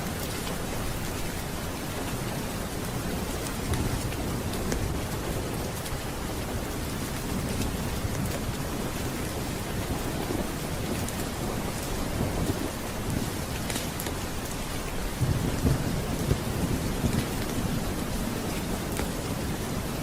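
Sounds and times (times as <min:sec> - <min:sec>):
steady rain: 0:00.0 - 0:20.0
rolling thunder rumble: 0:00.1 - 0:20.0.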